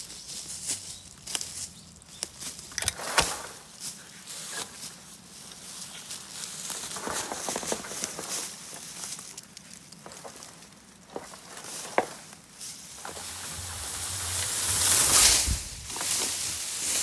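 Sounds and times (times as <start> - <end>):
dry leaves crackling underfoot: 0.0 - 17.0.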